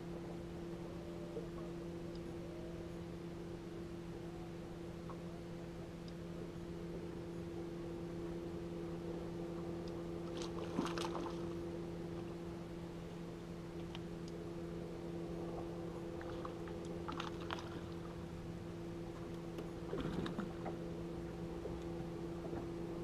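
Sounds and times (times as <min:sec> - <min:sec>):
low electric hum: 0:00.0 - 0:23.0.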